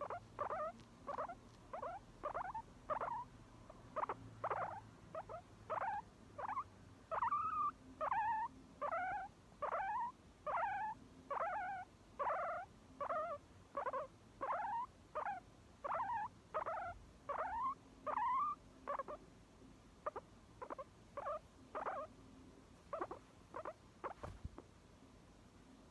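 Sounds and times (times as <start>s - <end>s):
guinea pig squeaking: 0.0s - 19.2s, 20.0s - 22.1s, 22.8s - 24.6s.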